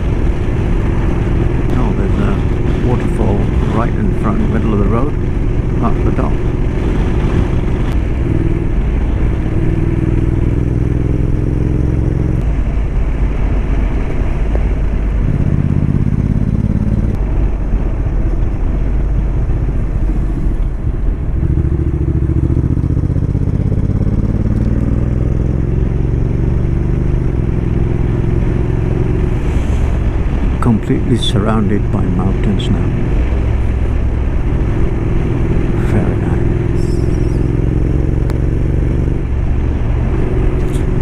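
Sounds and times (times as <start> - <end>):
motorcycle engine revving: 0.0 - 12.5, 14.4 - 17.5, 18.6 - 41.0
road and wind noise: 0.0 - 41.0.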